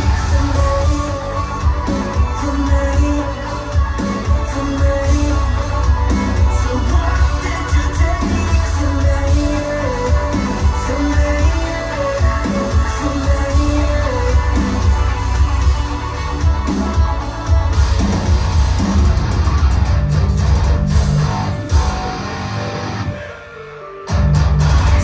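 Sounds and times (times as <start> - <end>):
rock music over speakers: 0.0 - 25.0.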